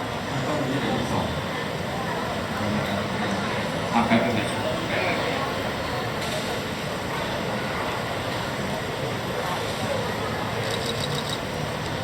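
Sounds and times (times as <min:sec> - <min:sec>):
crowd talking indistinctly: 0:00.0 - 0:12.0.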